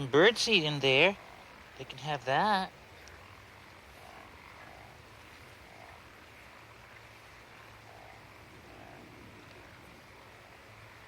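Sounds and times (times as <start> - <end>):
frogs croaking: 0.0 - 11.0
low steady hum: 0.0 - 11.0.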